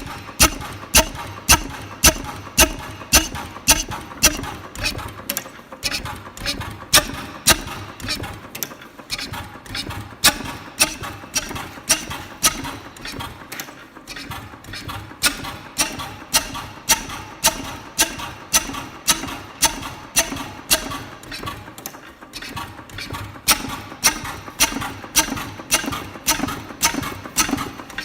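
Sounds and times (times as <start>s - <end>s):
oil engine knocking: 0.0s - 28.0s.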